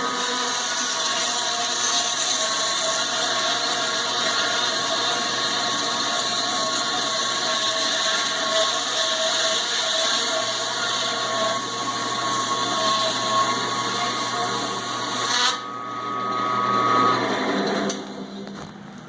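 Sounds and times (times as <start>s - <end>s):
electric band saw running: 0.0s - 18.5s.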